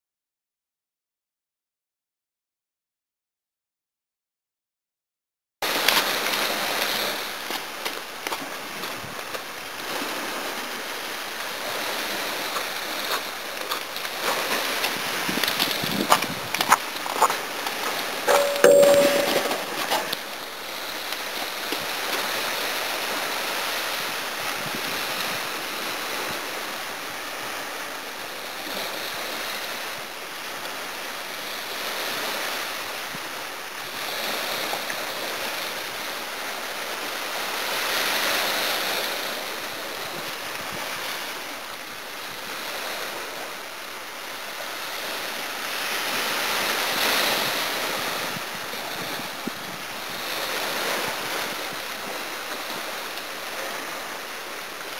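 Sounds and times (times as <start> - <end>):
small waves washing up beach: 5.6 - 18.2, 20.4 - 54.9.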